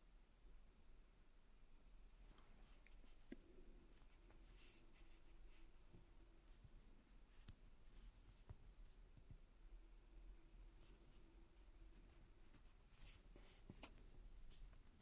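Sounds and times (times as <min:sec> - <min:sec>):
faint clicks and rustles of fingers: 0:02.2 - 0:09.6, 0:10.3 - 0:15.0.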